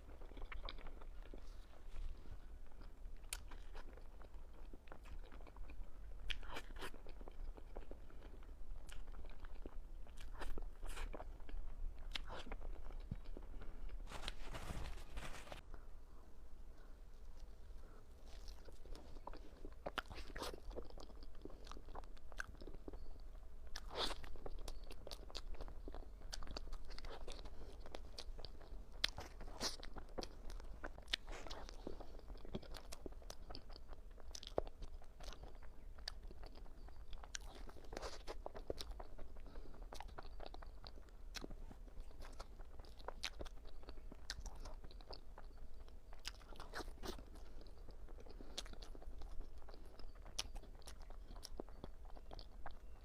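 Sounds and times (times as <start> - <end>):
person biting and chewing: 0.1 - 15.6, 17.4 - 23.1, 23.7 - 53.0.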